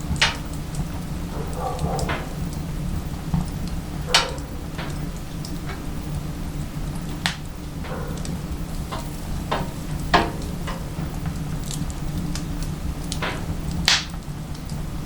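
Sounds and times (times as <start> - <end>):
firewood crackling and popping: 0.0 - 15.0
steady low hum: 0.0 - 15.0.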